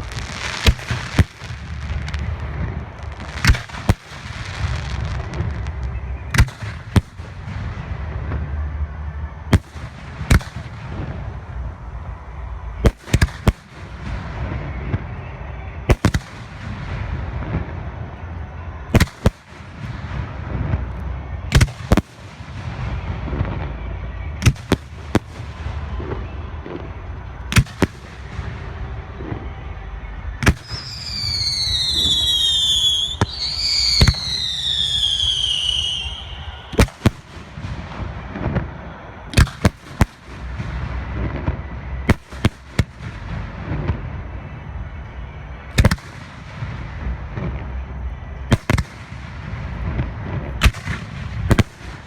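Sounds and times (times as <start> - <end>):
fireworks rumble: 0.0 - 52.0.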